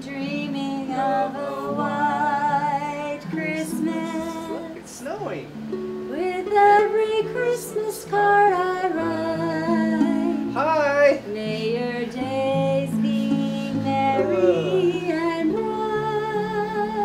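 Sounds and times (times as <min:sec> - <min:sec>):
person singing: 0:00.0 - 0:04.9, 0:06.1 - 0:17.0
plucked guitar: 0:00.0 - 0:17.0.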